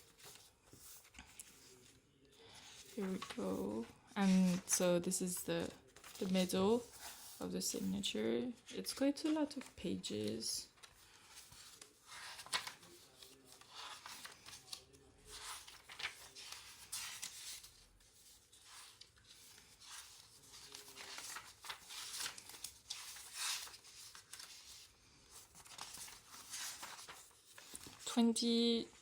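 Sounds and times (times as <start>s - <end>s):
paper pages rustling: 0.0s - 29.0s.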